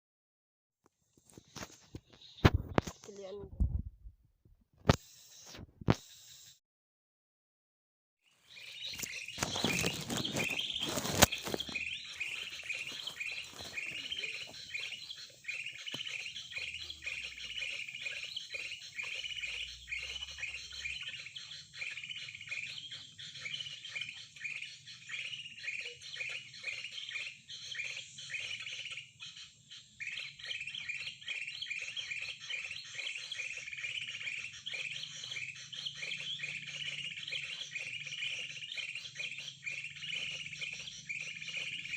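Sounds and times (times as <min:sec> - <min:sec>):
bird chirping: 0:01.2 - 0:03.8, 0:08.2 - 0:41.9.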